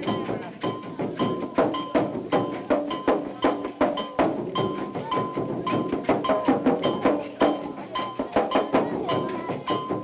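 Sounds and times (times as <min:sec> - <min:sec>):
ringing percussion strikes: 0:00.0 - 0:10.0.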